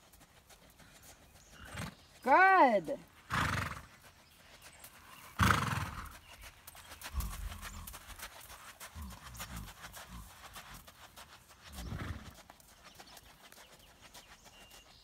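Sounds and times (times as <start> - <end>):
hoof steps on sand: 0.0 - 2.3, 3.1 - 15.0.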